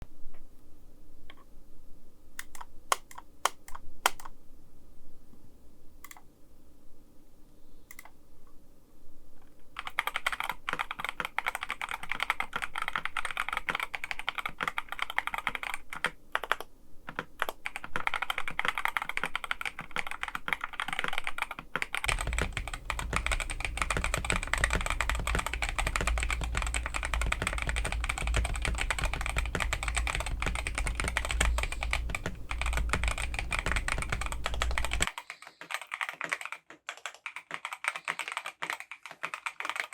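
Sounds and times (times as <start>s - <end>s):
mechanical keyboard typing: 2.4s - 4.3s, 9.7s - 39.9s.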